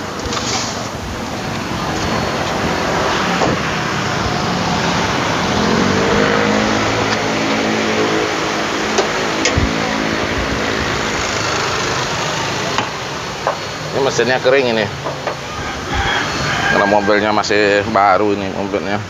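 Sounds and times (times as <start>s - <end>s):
vehicle engine running: 0.0s - 15.6s
traffic noise: 0.0s - 19.0s.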